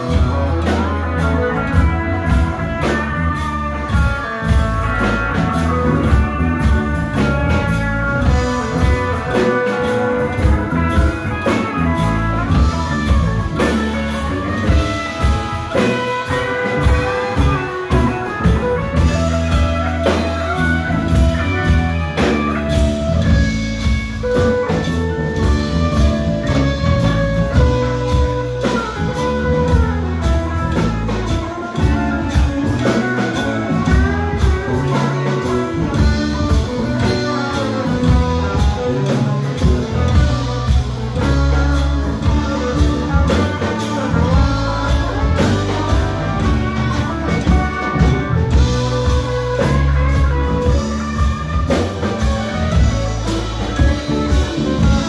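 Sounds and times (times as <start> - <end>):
bass guitar: 0.0 - 55.0
drum kit beat: 0.0 - 55.0
electric guitars: 0.0 - 55.0
keyboards: 0.0 - 55.0.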